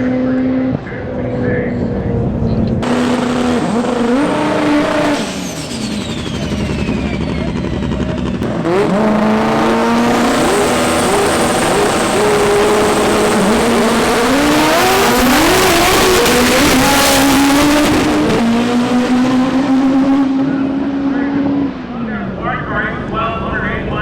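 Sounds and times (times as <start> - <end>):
drag car engine accelerating: 0.0 - 24.0.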